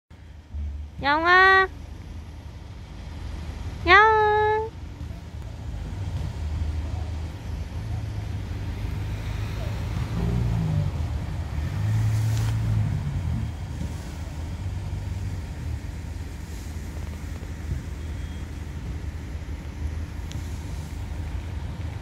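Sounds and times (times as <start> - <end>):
low engine rumble: 0.1 - 22.0.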